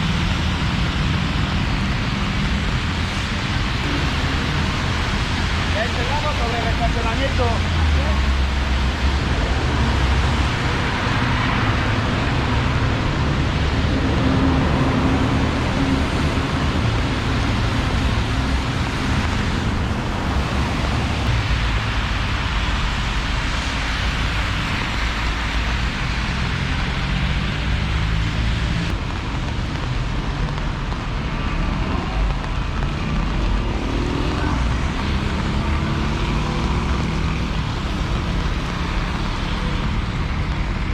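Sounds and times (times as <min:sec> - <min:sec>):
road noise: 0:00.0 - 0:40.9
vehicle engines running: 0:00.0 - 0:40.9.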